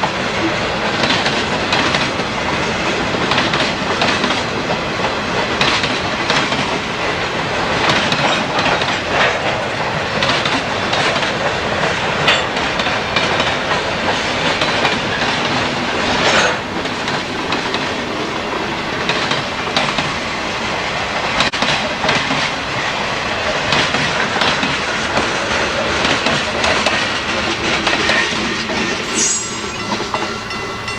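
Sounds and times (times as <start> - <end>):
freight train rolling past: 0.0 - 30.9
wheels clanking over rail joints: 0.0 - 30.9.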